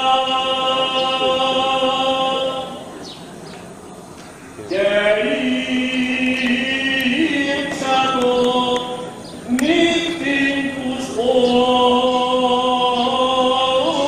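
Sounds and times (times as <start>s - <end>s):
voices chanting sustained notes: 0.0s - 14.0s.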